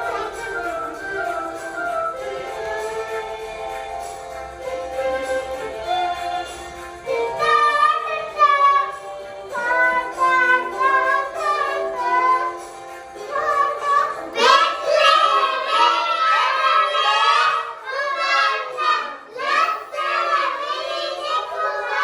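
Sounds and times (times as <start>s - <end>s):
children singing: 0.0s - 3.8s, 5.0s - 22.0s
instrumental backing music: 0.0s - 22.0s.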